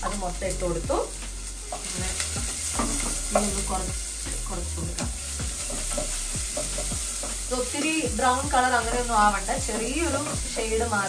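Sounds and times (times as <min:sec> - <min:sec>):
onion sizzling in oil: 0:00.0 - 0:11.0
scraping strokes in a pan: 0:01.1 - 0:10.8.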